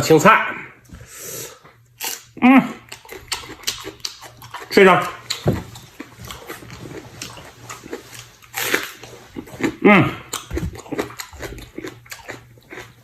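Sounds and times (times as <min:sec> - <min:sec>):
chewing and mouth noises: 0:01.7 - 0:13.0.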